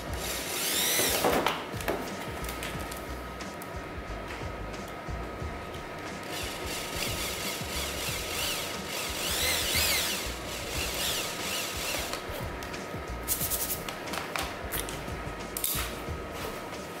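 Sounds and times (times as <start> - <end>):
instrumental music with bass beat: 1.8 - 13.9, 14.6 - 16.8.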